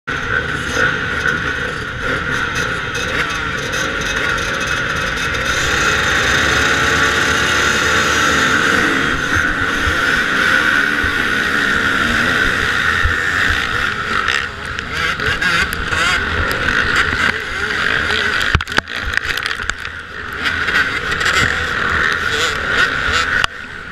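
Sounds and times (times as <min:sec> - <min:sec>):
motocross bike engine accelerating: 0:00.1 - 0:23.9
other motocross bikes running: 0:00.1 - 0:23.9.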